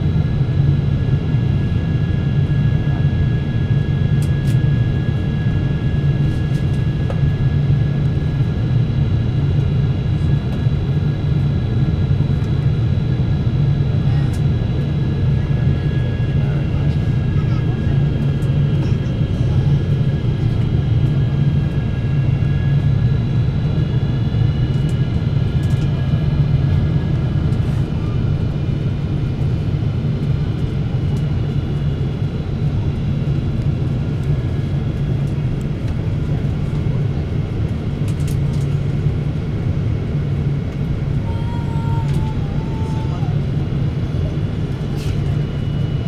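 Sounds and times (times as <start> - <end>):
low hum of engines and airflow: 0.0 - 46.0.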